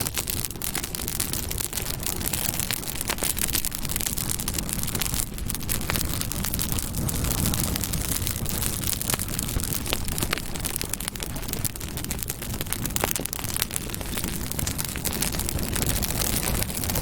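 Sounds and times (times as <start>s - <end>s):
campfire wood crackling: 0.0s - 17.0s.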